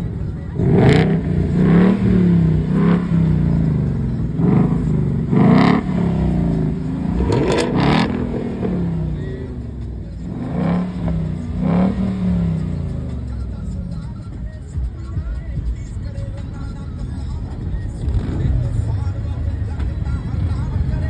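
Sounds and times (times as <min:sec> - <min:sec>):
car engine revving: 0:00.0 - 0:14.5, 0:16.8 - 0:21.0.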